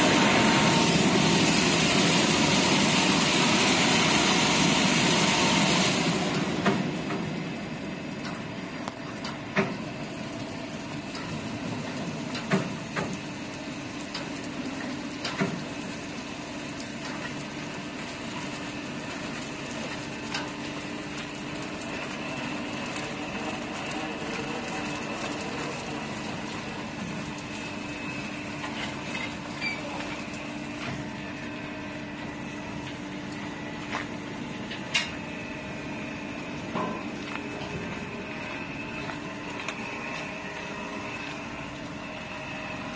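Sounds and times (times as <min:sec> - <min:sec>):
mechanical hum with held tone: 0:00.0 - 0:42.9.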